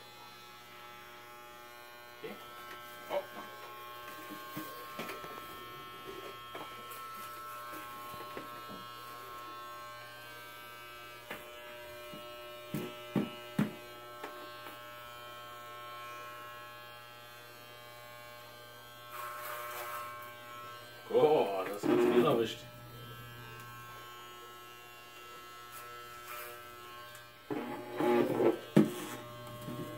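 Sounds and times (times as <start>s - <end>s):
electric hair clippers buzzing: 0.0s - 29.9s.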